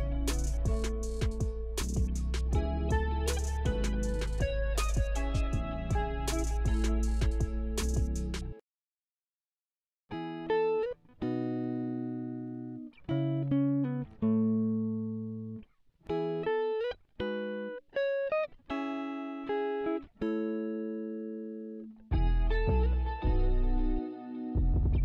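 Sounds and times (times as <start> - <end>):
clean guitar chords: 0.0 - 8.6, 10.1 - 25.0.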